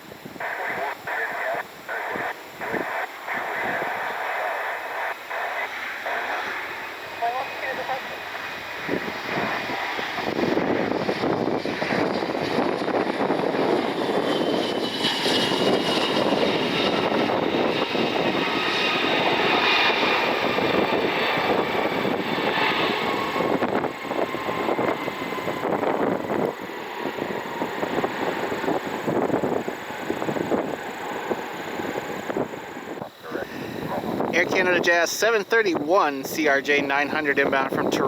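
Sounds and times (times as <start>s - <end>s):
airplane passing close by: 0.0s - 38.0s.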